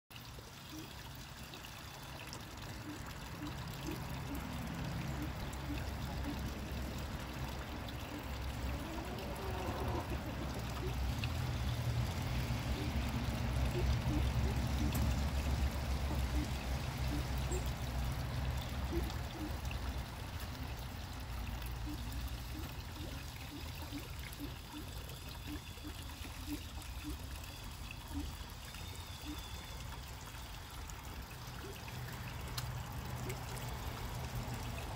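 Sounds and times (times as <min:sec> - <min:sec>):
water trickling into pond: 0:00.1 - 0:34.9.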